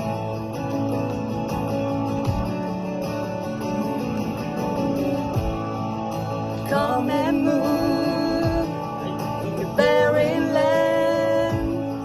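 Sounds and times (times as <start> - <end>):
guitar playing held chords: 0.0 - 12.0.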